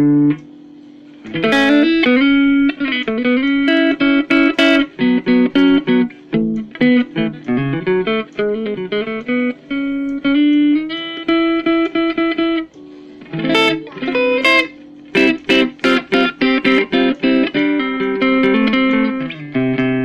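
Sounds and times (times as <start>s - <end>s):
clean electric guitar playing: 0.0s - 20.0s.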